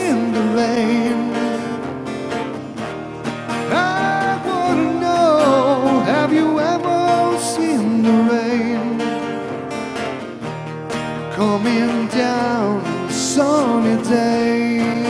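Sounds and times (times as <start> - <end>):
acoustic guitar playing: 0.0 - 15.0
sliding lead melody: 0.0 - 15.0.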